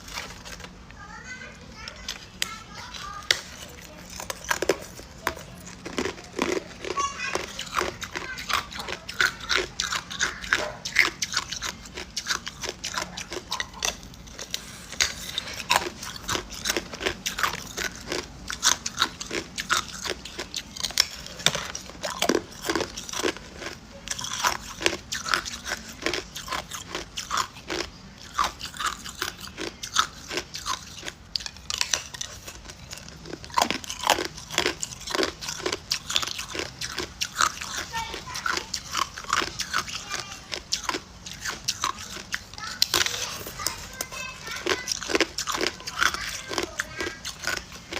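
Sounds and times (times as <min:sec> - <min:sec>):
ice cubes crunched by teeth: 0:01.8 - 0:47.9.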